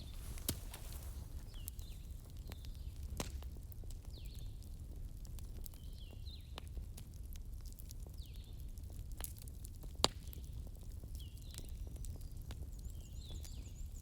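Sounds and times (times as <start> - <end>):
wood fire crackling: 0.0 - 13.8.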